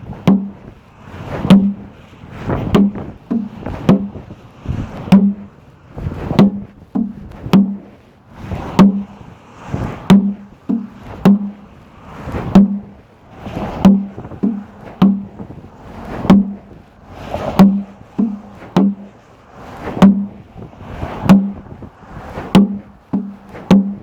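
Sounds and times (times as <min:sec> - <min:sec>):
regular low thuds: 0:00.0 - 0:24.0.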